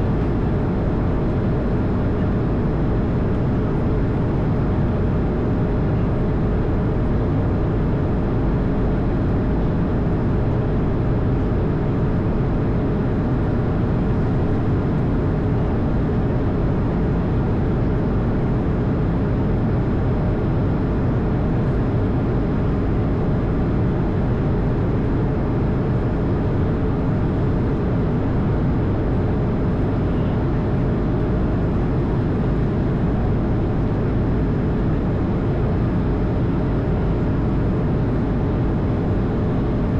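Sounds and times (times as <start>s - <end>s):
faint steady hum: 0.0s - 39.9s
jet engine rumble in cockpit: 0.0s - 39.9s.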